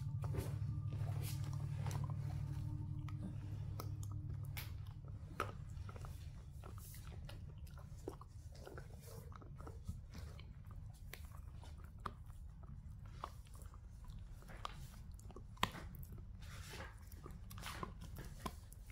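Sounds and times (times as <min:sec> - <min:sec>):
dog gnawing a hard chew: 0:00.0 - 0:18.9
low steady hum: 0:00.0 - 0:18.9.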